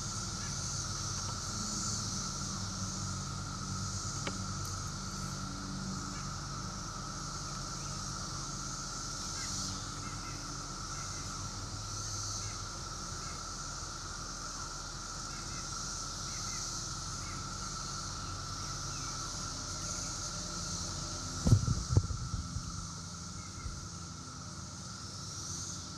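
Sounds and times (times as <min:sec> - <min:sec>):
cicadas droning: 0:00.0 - 0:25.9.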